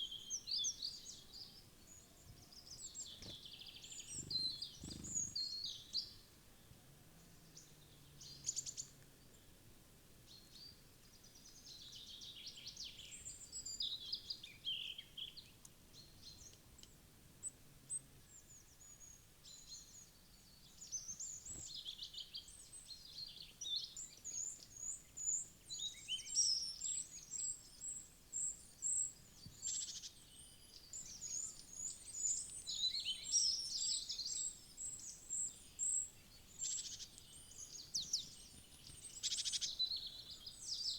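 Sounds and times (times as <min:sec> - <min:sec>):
songbirds chirping and trilling: 0:00.0 - 0:09.6, 0:10.3 - 0:40.9.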